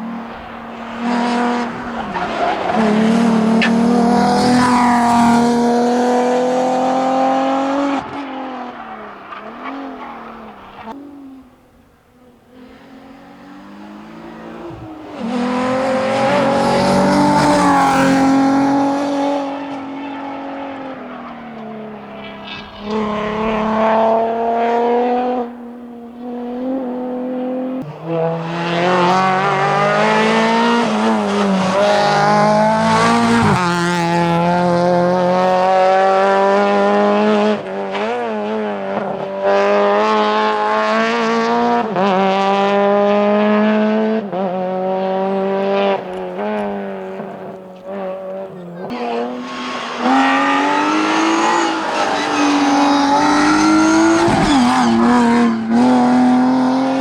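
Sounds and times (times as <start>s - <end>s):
another rally car engine: 0.0s - 57.0s
rally car engine revving: 0.0s - 57.0s.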